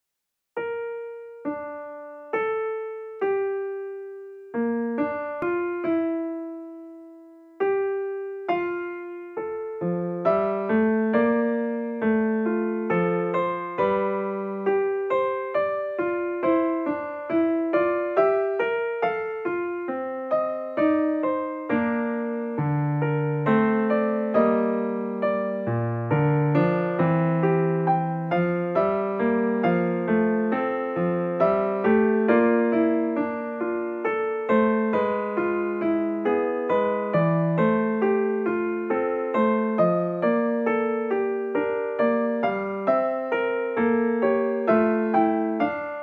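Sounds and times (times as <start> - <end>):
piano music: 0.6 - 46.0.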